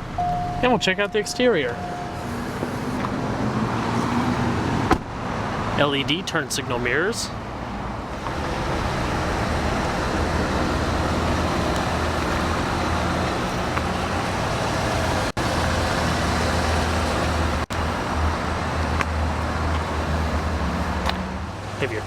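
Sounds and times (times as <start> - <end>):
car engine idling: 0.0 - 3.8, 8.1 - 22.0.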